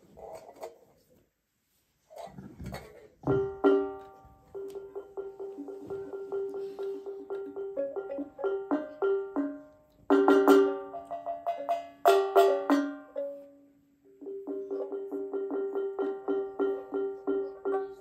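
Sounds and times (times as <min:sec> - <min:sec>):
acoustic plucked instrumental music: 0:03.3 - 0:18.0.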